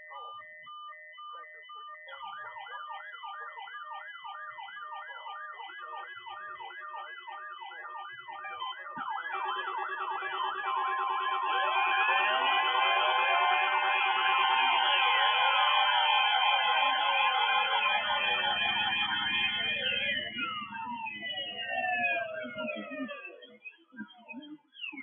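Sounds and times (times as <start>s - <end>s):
siren-like warble: 0.0s - 24.4s
steady alarm tone: 0.1s - 23.3s.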